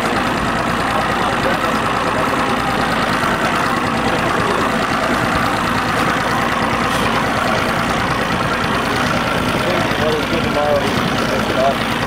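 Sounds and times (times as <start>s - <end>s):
motorboat engine running: 0.0s - 12.0s
water noise: 0.0s - 12.0s.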